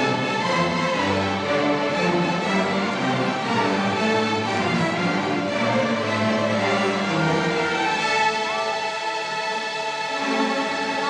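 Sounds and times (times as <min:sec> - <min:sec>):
string orchestra holding notes: 0:00.0 - 0:11.0.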